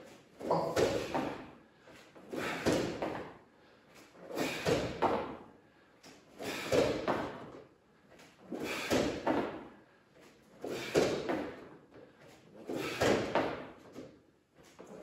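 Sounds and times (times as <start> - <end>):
person exercising with effort sounds: 0.0 - 15.0.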